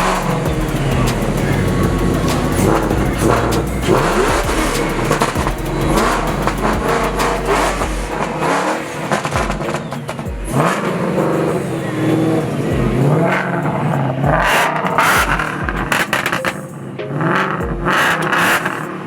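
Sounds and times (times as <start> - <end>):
background music: 0.0 - 19.0
car engines revving: 0.0 - 19.0.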